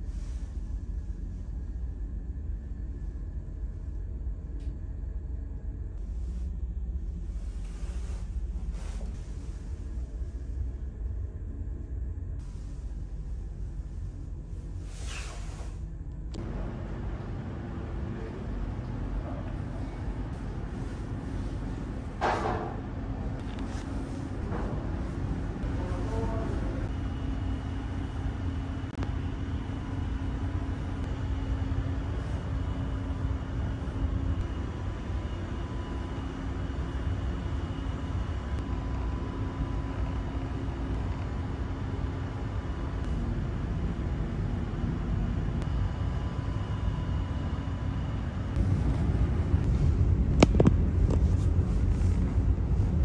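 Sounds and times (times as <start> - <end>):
ship engines rumbling and humming: 0.0 - 53.0.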